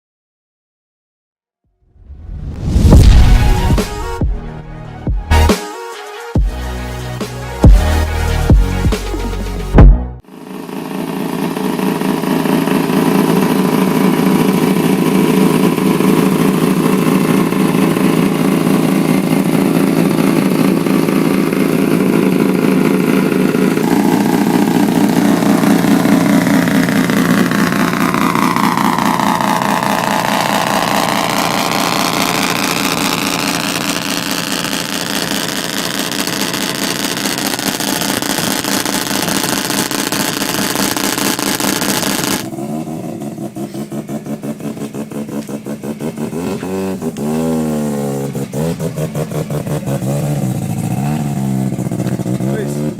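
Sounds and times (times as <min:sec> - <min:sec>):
loud car engine running: 0:06.4 - 0:52.9.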